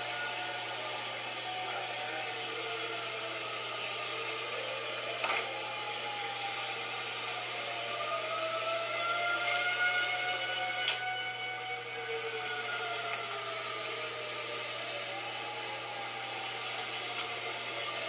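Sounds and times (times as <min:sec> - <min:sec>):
tornado siren wailing: 0:00.0 - 0:18.0.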